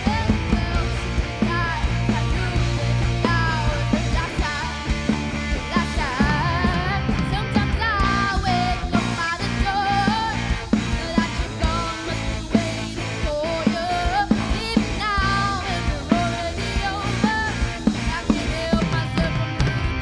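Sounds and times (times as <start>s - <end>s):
bass: 0.0s - 20.0s
guitar: 0.0s - 20.0s
steady drum beat: 0.0s - 20.0s.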